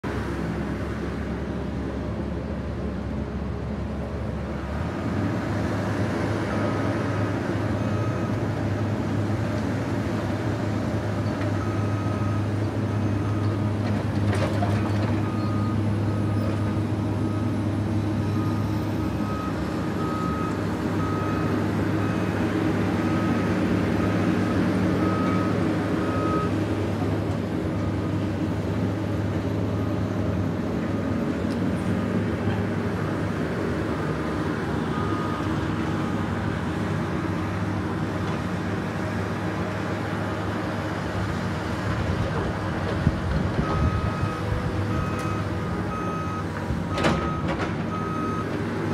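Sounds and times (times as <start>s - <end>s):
diesel engines running: 0.0s - 48.9s.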